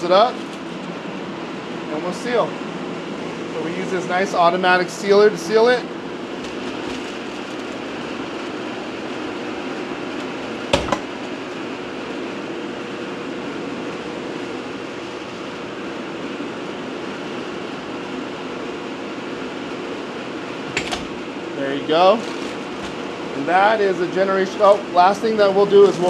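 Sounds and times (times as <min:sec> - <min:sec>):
fan whirring: 0:00.0 - 0:26.0.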